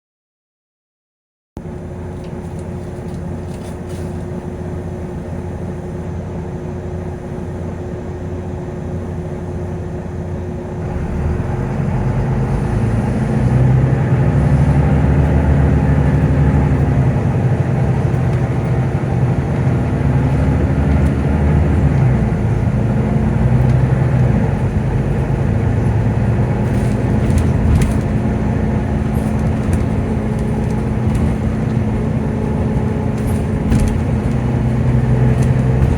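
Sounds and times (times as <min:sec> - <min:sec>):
diesel bus engine idling: 0:01.6 - 0:35.9
engine cooling fan whirring: 0:01.6 - 0:35.9.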